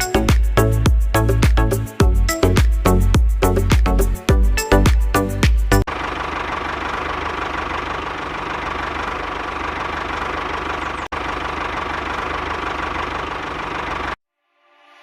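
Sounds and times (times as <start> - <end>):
engine running with knocking pulse: 0.0 - 14.2.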